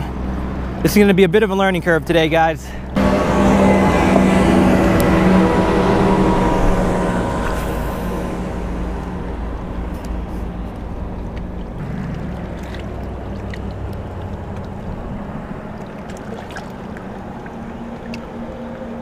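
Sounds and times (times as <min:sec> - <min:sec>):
motorboat engine droning: 0:00.0 - 0:19.0
wind: 0:00.0 - 0:19.0
water noise: 0:02.8 - 0:19.0.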